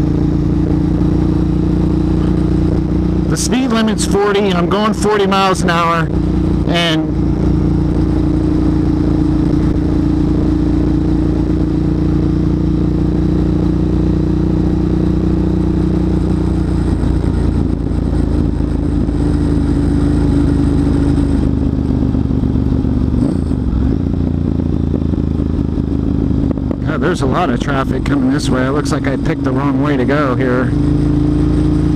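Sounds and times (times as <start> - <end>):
motorcycle engine cruising: 0.0 - 31.9.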